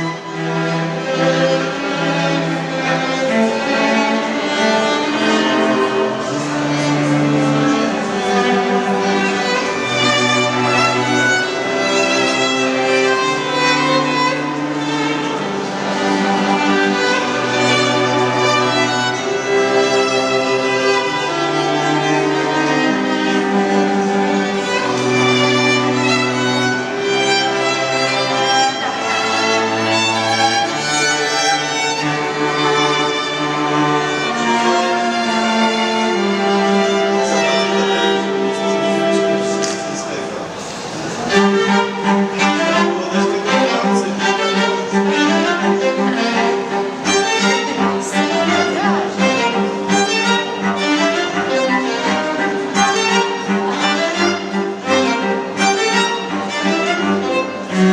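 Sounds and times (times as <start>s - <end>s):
held cello bass notes: 0.0s - 57.9s
violins playing melody: 0.0s - 57.9s.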